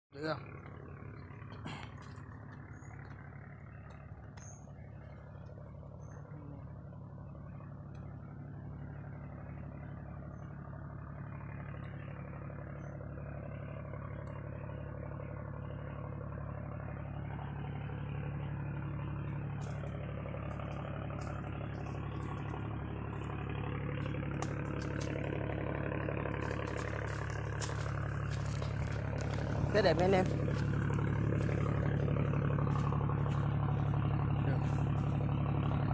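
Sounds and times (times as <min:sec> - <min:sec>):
engine running steadily: 0:00.1 - 0:35.9.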